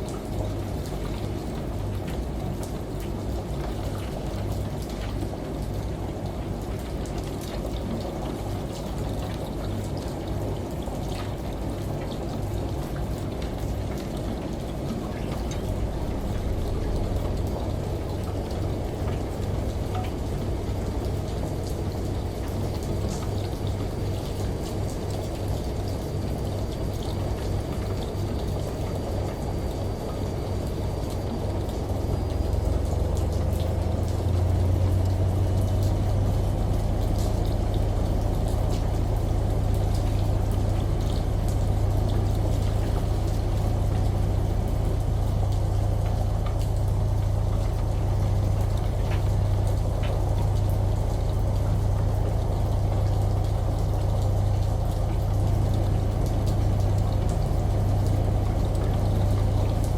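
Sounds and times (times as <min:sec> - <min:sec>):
low steady hum: 0:00.0 - 0:59.9
water pouring and splashing: 0:00.0 - 0:59.9.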